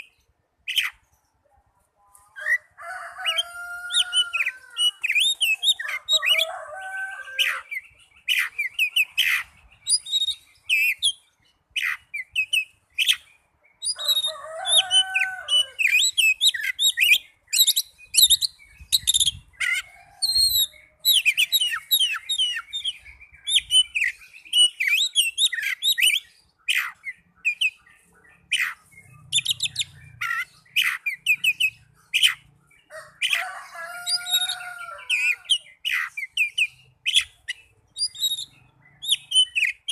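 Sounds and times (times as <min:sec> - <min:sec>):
bird song whistles and trills: 0:02.6 - 0:39.9.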